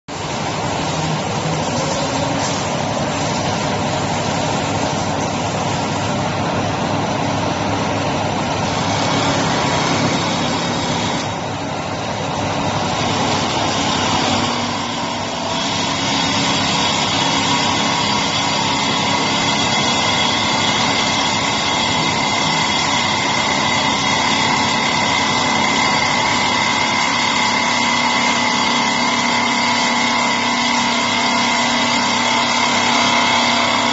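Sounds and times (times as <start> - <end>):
high whine: 0.1 - 33.9
lathe machine whine: 0.1 - 33.9.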